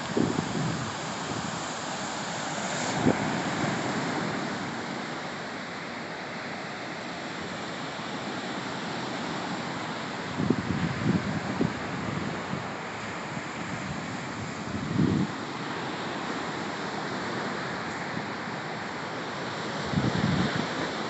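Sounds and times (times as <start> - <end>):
sea surf: 0.0 - 21.0
wind: 0.0 - 21.0.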